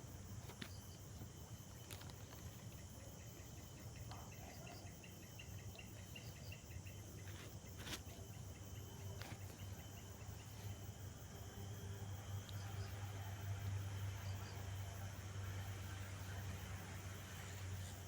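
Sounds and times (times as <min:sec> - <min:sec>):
faint insects chirping: 0:00.0 - 0:18.0.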